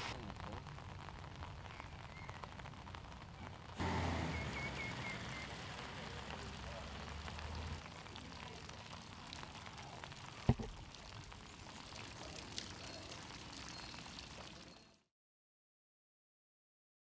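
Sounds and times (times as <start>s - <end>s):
rain falling on water: 0.0s - 15.1s.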